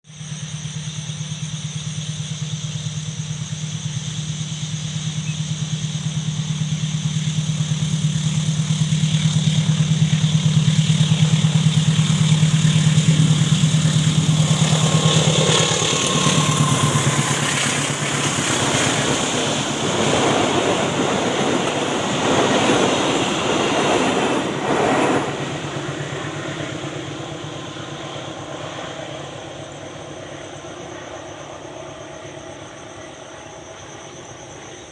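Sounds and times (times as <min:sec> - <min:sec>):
locomotive engine drone: 0:00.1 - 0:34.9
train carriages rumbling over rails: 0:00.2 - 0:34.9.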